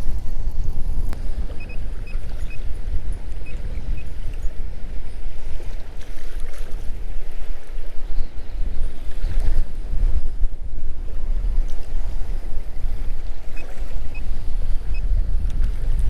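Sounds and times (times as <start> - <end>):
choppy water: 0.0 - 16.0
wind buffeting microphone: 0.0 - 16.0.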